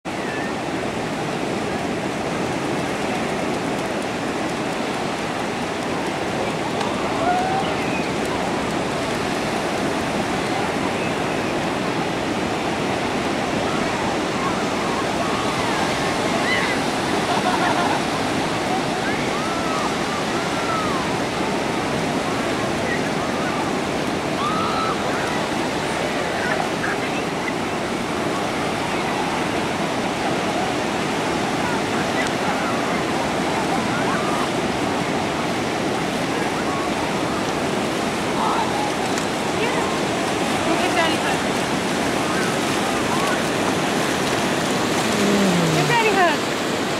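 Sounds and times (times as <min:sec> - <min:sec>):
ocean surf breaking: 0:00.1 - 0:46.9.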